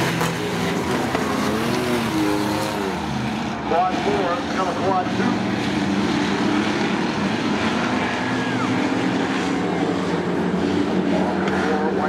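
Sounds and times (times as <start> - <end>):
race truck engines droning: 0.0 - 12.0.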